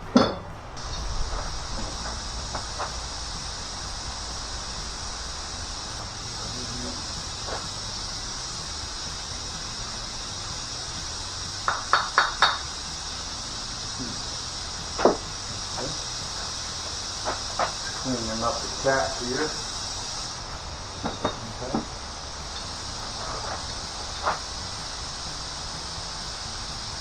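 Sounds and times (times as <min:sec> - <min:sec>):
steady high-pitched hiss: 0:00.0 - 0:27.0.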